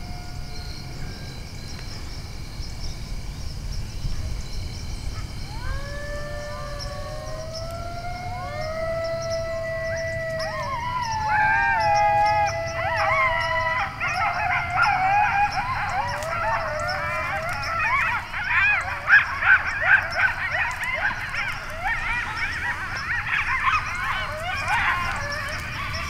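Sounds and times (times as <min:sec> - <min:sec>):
canines yipping and howling: 0:05.1 - 0:26.0.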